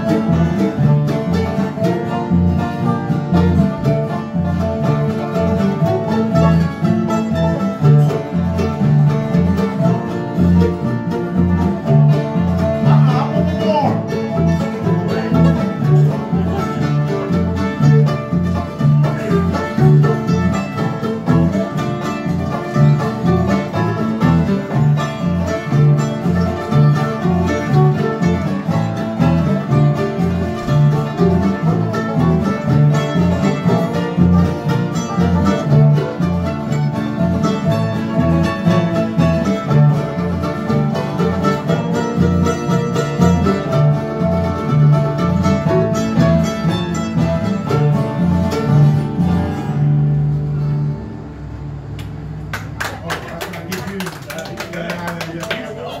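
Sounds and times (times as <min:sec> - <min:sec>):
bass notes beat: 0:00.0 - 0:53.1
acoustic string band playing: 0:00.0 - 0:56.0.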